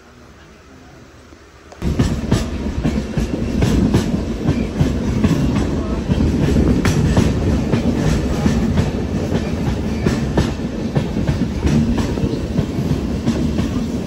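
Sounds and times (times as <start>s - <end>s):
train rumbling on rails: 0.1s - 14.0s.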